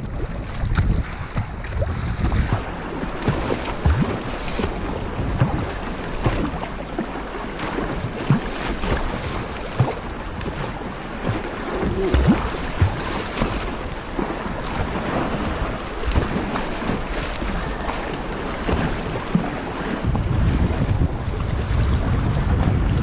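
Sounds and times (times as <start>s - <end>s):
low thuds and splashes: 0.0s - 23.0s
sea water splashing: 0.0s - 23.0s
wind buffeting microphone: 0.0s - 23.0s.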